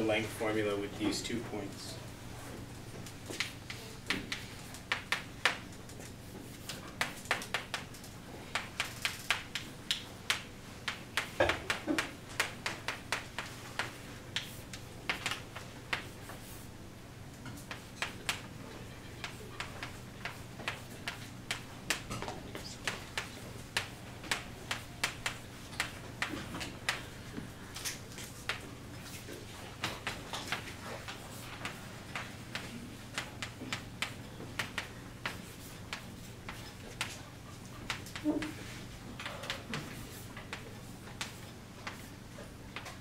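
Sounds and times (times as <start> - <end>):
chalk tapping and scraping: 3.3 - 16.7, 19.2 - 27.6, 28.2 - 42.2.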